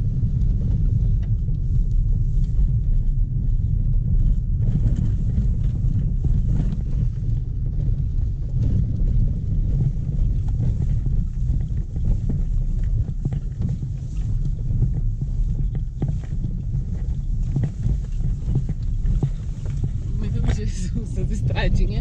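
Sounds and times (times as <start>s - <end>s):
tyres and engine rumble: 0.0s - 22.0s.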